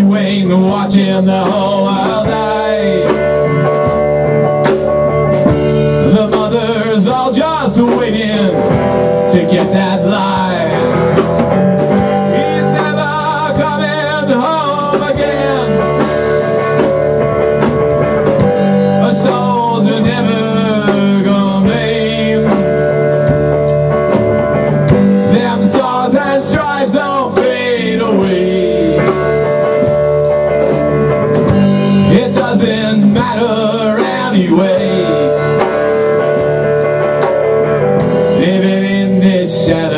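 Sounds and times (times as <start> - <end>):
man singing: 0.0 - 4.0, 5.5 - 16.9, 18.3 - 24.2, 24.8 - 30.0, 31.4 - 36.4, 38.0 - 39.9
drum kit: 0.0 - 39.9
electric bass: 0.0 - 39.9
electric guitar: 0.0 - 39.9.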